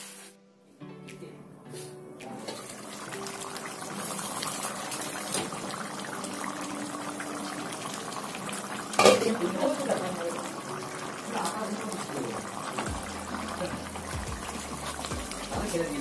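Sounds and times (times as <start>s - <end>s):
gravy bubbling in a pan: 2.6s - 16.0s.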